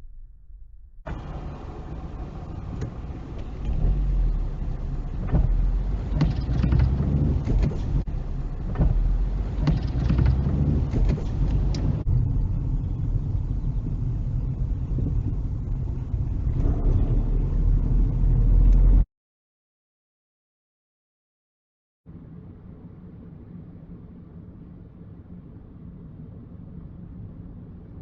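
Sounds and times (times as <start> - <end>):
car engine and road rumble: 0.1 - 19.1, 22.1 - 28.0.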